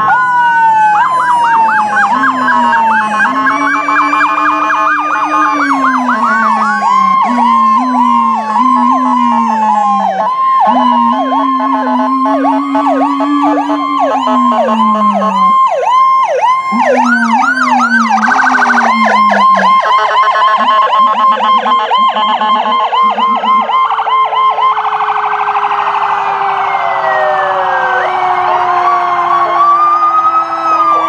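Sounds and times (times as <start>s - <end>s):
emergency vehicle sirens: 0.0s - 31.0s.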